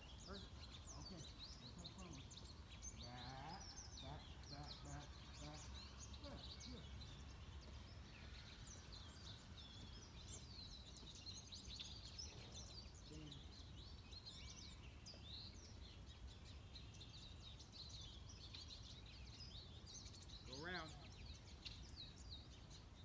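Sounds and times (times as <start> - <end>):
small birds chirping and trilling: 0.0 - 23.0.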